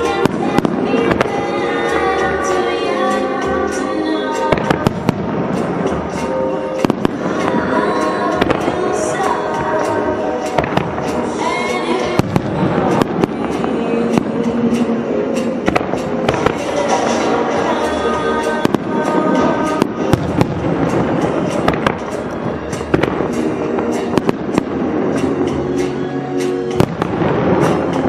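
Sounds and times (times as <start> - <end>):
loud music: 0.0 - 28.0
firework shells bursting: 4.3 - 28.0.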